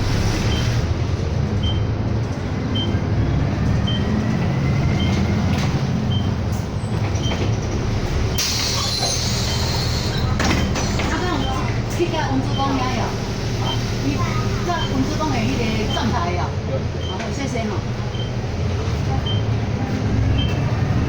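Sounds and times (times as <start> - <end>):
bus engine hum: 0.0 - 21.0
road noise: 0.0 - 21.0.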